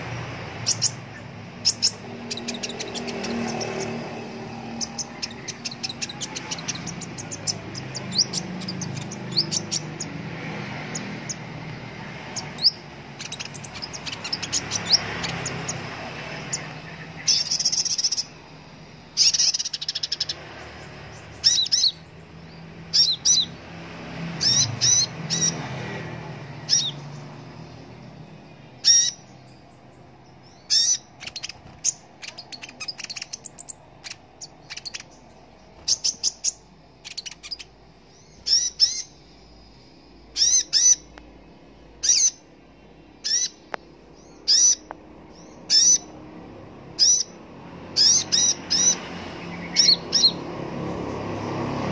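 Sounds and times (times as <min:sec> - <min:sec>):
bird giving sharp high chirps: 0:00.0 - 0:23.6, 0:24.3 - 0:25.7, 0:26.5 - 0:27.4, 0:28.7 - 0:41.2, 0:41.9 - 0:42.5, 0:43.2 - 0:46.2, 0:47.0 - 0:50.5.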